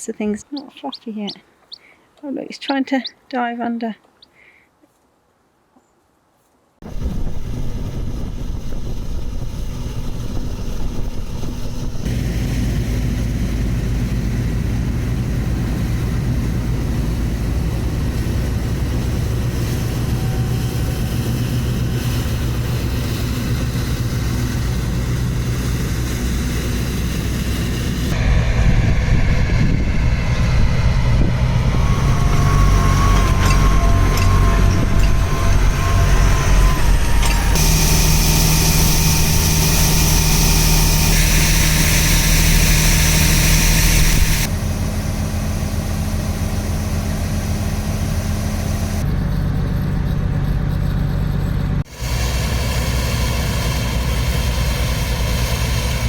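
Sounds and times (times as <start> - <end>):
heavy engine drone: 6.8 - 56.0
thin steady whine: 6.9 - 56.0.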